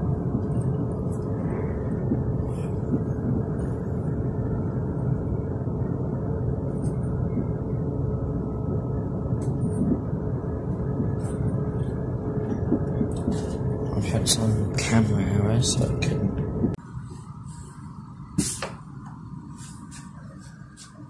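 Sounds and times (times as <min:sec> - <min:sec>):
faint steady hum: 0:00.0 - 0:21.0
train running rumble: 0:00.0 - 0:21.0.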